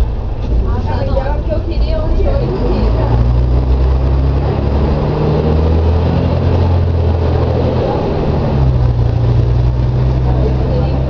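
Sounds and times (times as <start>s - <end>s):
bus diesel engine drone: 0.0s - 11.0s.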